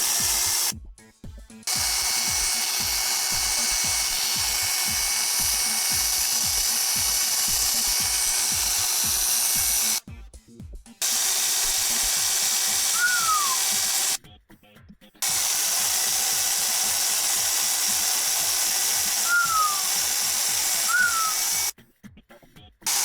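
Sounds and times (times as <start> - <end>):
electric hair clipper buzzing: 0.0 - 0.8, 1.6 - 10.0, 11.0 - 14.2, 15.2 - 21.7.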